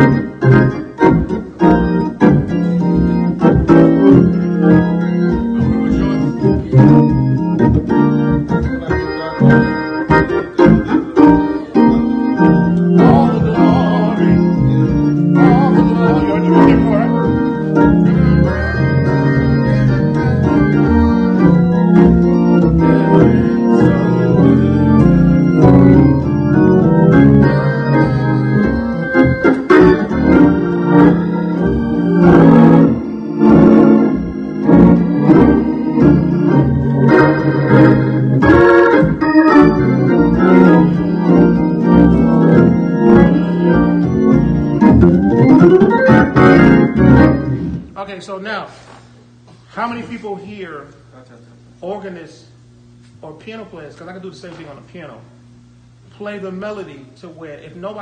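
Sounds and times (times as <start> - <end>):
hammond organ playing chords: 0.0 - 58.0.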